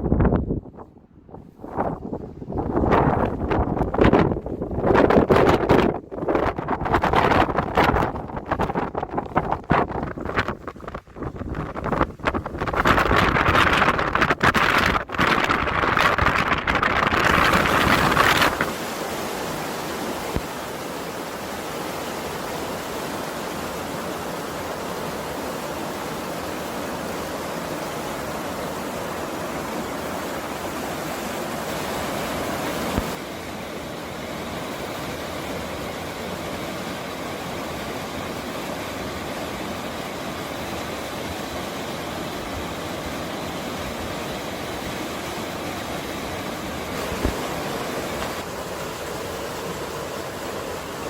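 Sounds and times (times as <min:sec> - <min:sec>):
mountain stream rushing: 0:04.9 - 0:51.0.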